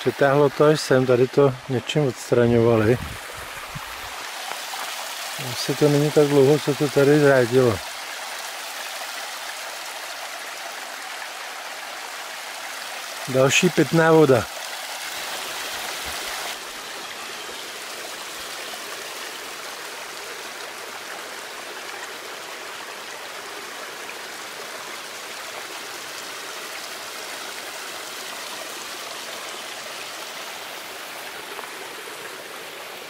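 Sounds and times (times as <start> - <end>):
stream flowing water: 0.0 - 33.0.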